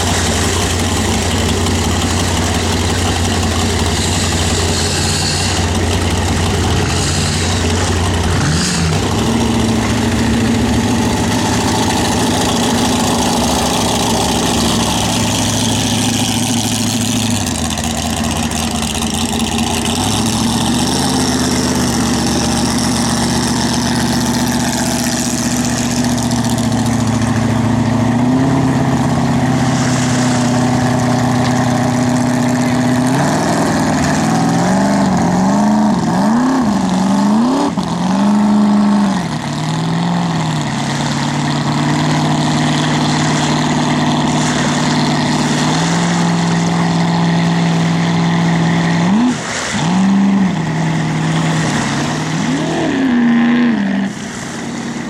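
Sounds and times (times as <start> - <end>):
boat engine revving: 0.0 - 55.0.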